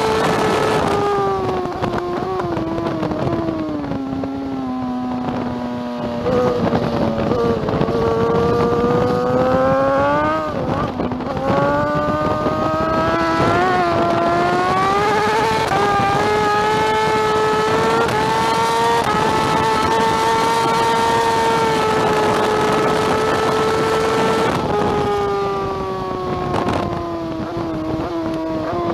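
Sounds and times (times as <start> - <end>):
motorcycle engine accelerating hard: 0.0 - 28.9
wind rushing: 0.0 - 28.9.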